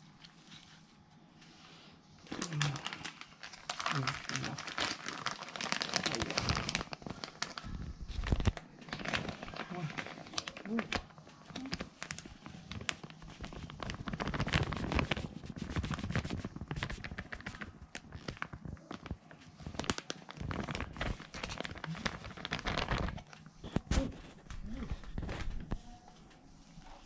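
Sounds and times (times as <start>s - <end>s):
plastic bag crinkling: 2.2s - 25.7s.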